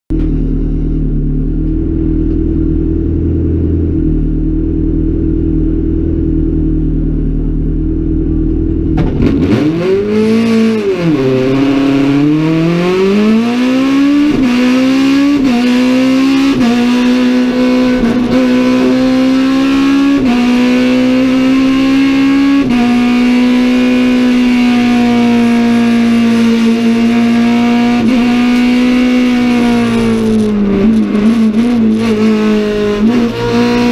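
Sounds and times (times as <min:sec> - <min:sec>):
race car engine revving: 0:00.2 - 0:33.9.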